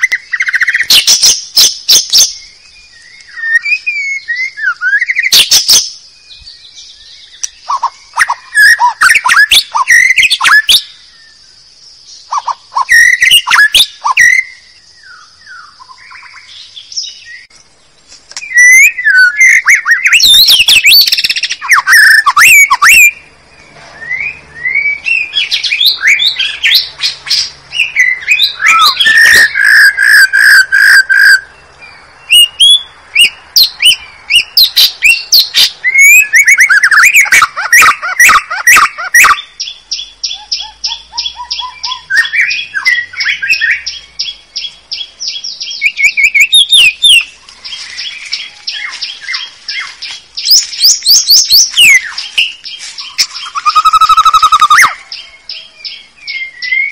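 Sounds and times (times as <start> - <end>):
bird song with whistled notes: 0.0 - 56.9.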